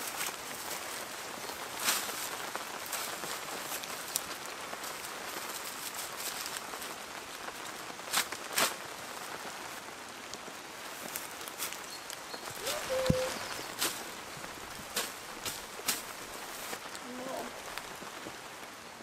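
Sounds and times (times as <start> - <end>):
reed thatch rustling and crackling: 0.0 - 19.0.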